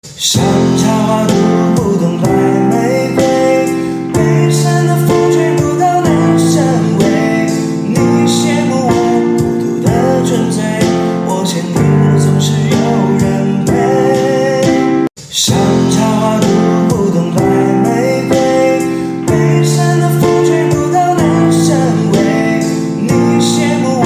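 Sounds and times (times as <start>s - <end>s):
person singing: 0.0s - 24.0s
guitar accompaniment: 0.4s - 24.0s.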